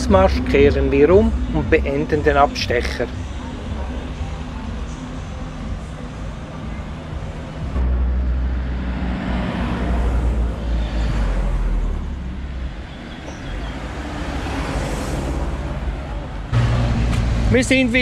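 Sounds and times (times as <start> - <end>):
cars driving past: 0.0 - 18.0
deep traffic rumble: 0.0 - 18.0.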